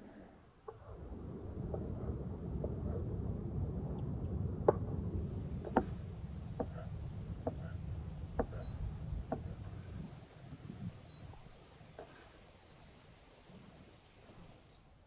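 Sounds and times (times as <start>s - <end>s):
low steady rumble: 0.7s - 14.6s.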